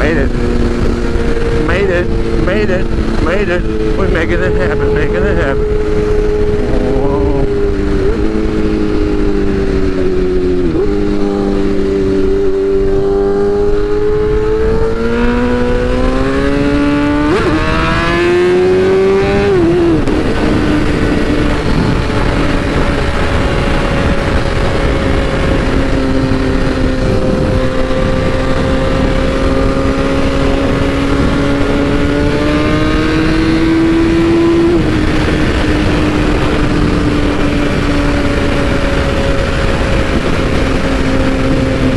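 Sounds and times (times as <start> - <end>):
motorcycle engine accelerating: 0.0 - 41.9
wind rush: 0.0 - 41.9.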